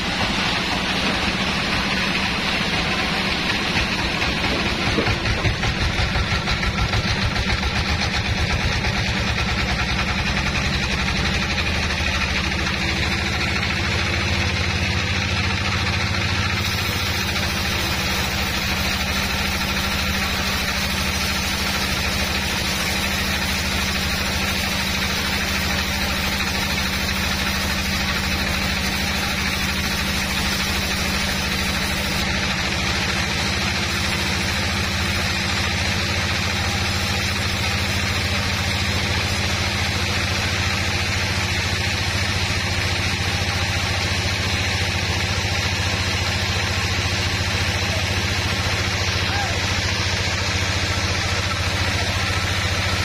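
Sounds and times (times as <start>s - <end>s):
sawmill drive humming: 0.0s - 53.0s.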